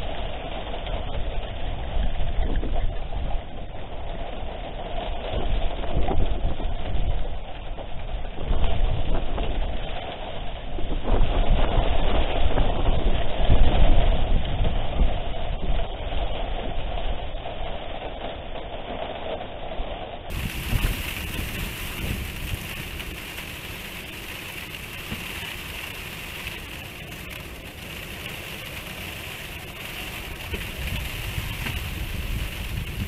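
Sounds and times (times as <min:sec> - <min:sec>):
wind buffeting microphone: 0:00.0 - 0:18.6, 0:20.3 - 0:33.0
falling rain: 0:00.0 - 0:33.0.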